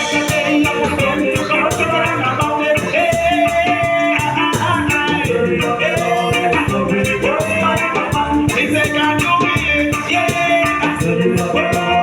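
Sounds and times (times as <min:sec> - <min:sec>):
gospel song with steady beat: 0:00.0 - 0:12.0.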